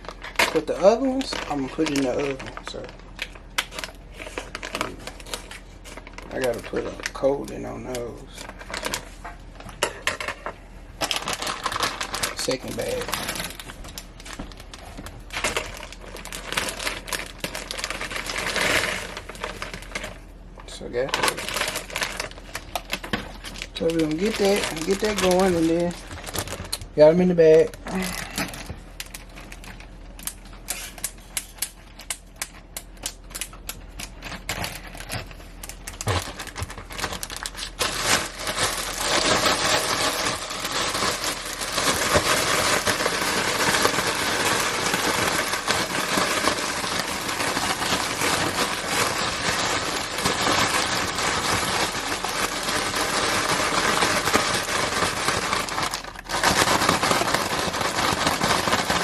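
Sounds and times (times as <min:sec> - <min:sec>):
plastic bag crinkling and rustling: 0:00.0 - 0:59.0.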